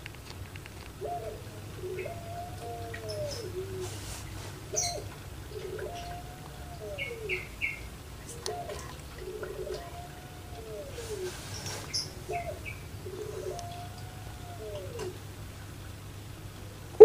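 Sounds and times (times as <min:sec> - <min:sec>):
dove cooing: 0:00.9 - 0:15.3.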